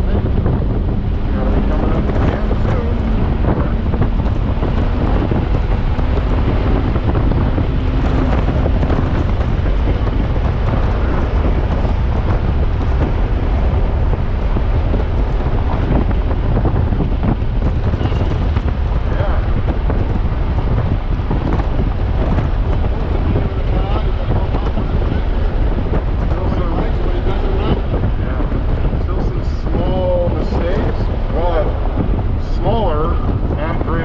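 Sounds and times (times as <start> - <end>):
car engine accelerating: 0.0 - 33.4
wind and road noise: 0.0 - 34.0.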